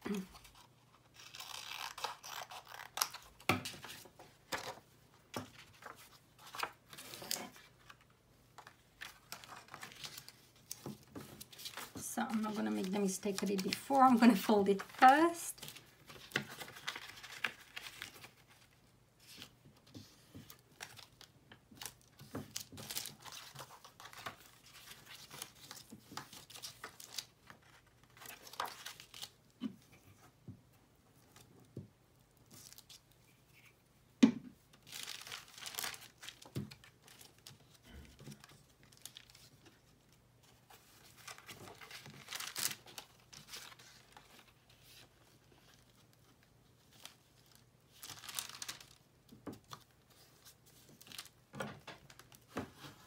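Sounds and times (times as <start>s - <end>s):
paper rustling and crinkling: 0.1s - 30.4s, 34.7s - 53.0s.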